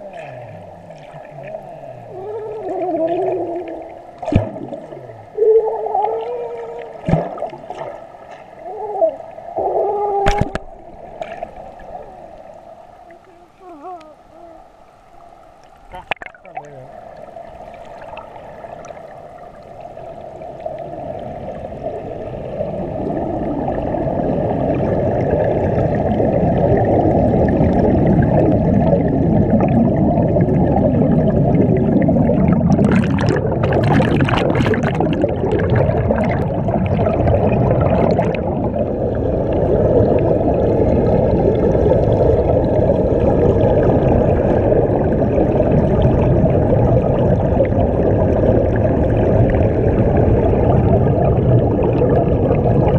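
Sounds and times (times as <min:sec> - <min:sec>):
crackling fizz: 0:00.0 - 0:52.9
muffled underwater churning water: 0:00.0 - 0:52.9.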